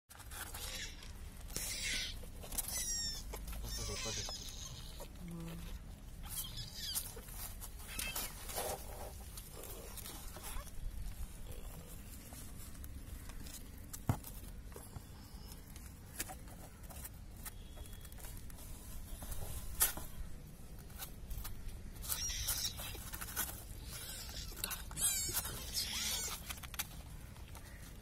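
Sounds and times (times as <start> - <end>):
faint rustling: 0.1 - 28.0.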